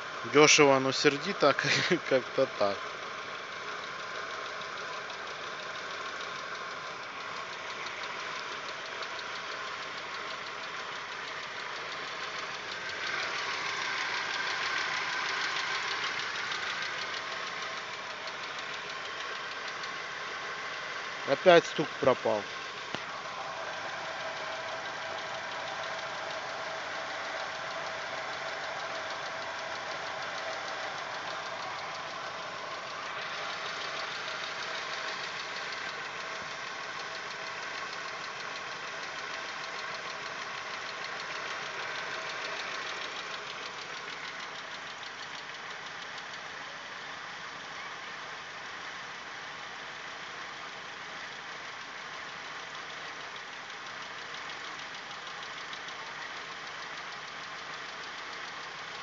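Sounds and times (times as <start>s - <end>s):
car engine idling: 0.0s - 59.0s
fine rapid engine ticking: 0.0s - 59.0s.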